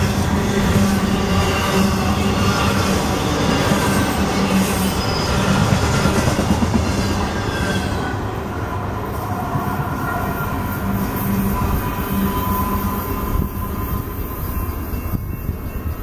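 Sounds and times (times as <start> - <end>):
wheels squealing: 0.0 - 6.1, 7.2 - 16.0
freight train rolling past: 0.0 - 16.0.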